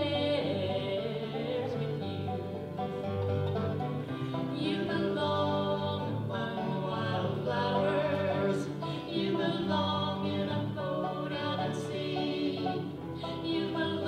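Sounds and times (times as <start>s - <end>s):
guitar accompaniment: 0.0s - 14.0s
sustained melody on long notes: 0.0s - 14.0s.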